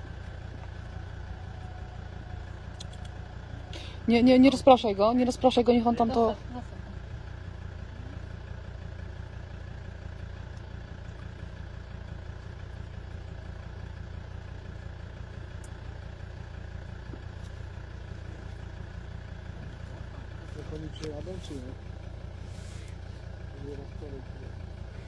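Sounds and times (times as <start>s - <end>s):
machine droning: 0.0s - 25.0s.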